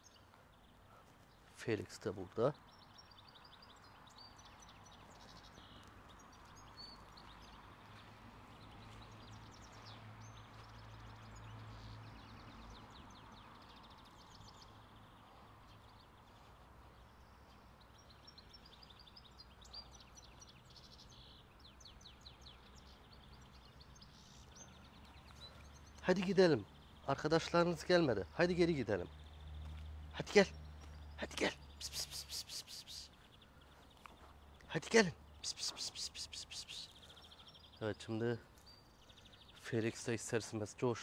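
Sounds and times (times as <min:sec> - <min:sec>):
faint birds chirping: 0:00.0 - 0:41.0.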